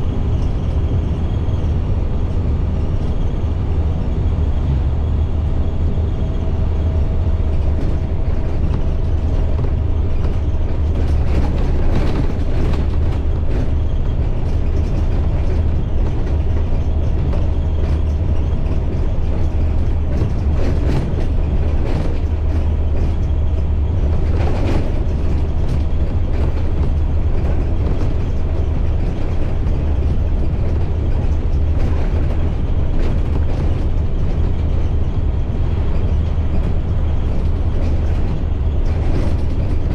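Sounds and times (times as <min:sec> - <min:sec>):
bumps and rattles: 0:00.0 - 0:39.9
diesel bus engine drone: 0:00.0 - 0:39.9
road noise: 0:00.0 - 0:39.9.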